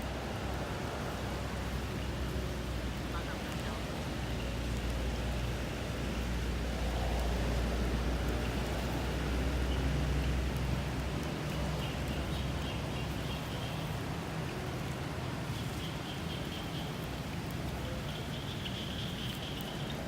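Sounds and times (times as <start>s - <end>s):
outdoor ambience after rain: 0.0s - 20.0s.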